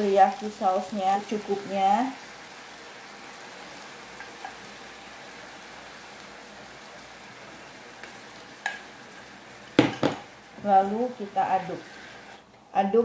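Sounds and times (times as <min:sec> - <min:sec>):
chicken sizzling in a frying pan: 0:00.0 - 0:12.5.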